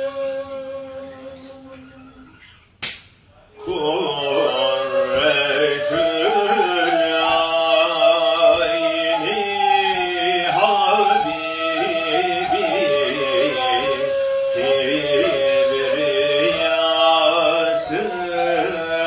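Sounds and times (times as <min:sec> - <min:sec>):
reed flutes playing: 0:00.0 - 0:02.8, 0:03.4 - 0:19.0
man singing: 0:03.6 - 0:19.0.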